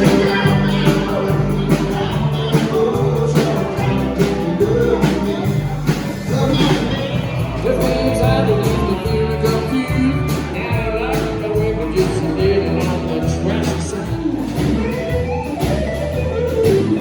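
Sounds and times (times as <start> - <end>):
bass line: 0.0 - 17.0
guitar: 0.0 - 17.0
person singing: 0.0 - 17.0.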